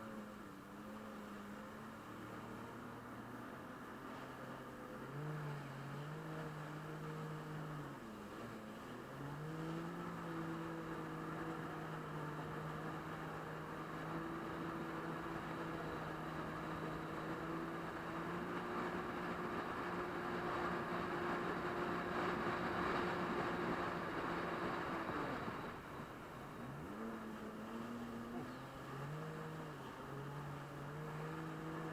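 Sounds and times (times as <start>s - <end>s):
jet ski engine running: 0.0s - 31.9s.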